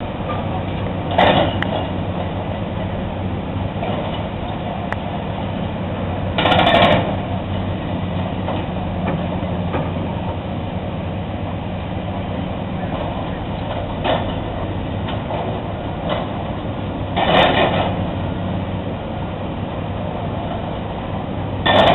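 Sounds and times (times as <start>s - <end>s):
rock crusher engine drone: 0.0s - 21.9s.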